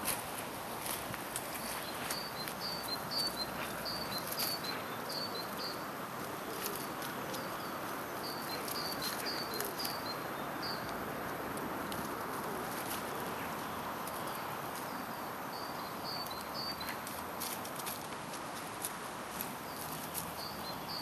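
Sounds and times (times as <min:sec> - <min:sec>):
songbird singing: 0:00.0 - 0:18.0, 0:19.4 - 0:21.0
outdoor rustle: 0:00.0 - 0:21.0.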